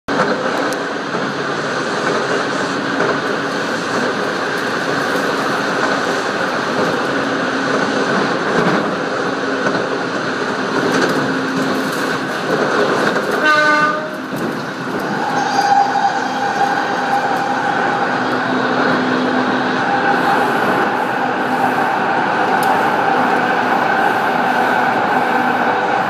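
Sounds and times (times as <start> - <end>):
train rumble and hum: 0.1 - 26.0.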